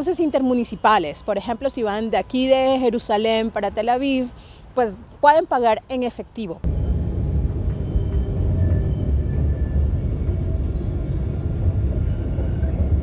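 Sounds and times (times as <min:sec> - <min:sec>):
low rumble of city street: 0:00.0 - 0:13.0.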